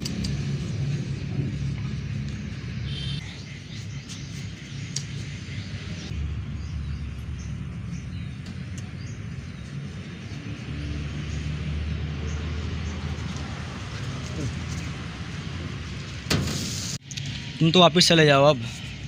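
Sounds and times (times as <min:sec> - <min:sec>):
steady low street rumble: 0:00.0 - 0:19.0.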